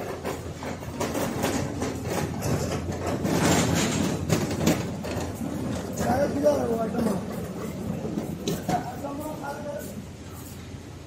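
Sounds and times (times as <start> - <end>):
forklift mechanical rattle: 0.0 - 9.6.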